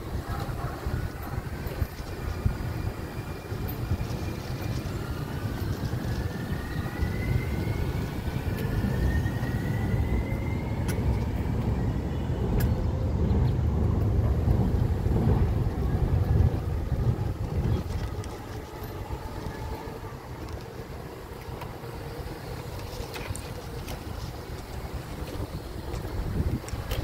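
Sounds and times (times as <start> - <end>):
wind buffeting microphone: 0.0 - 27.0
faint rising whine: 2.1 - 27.0.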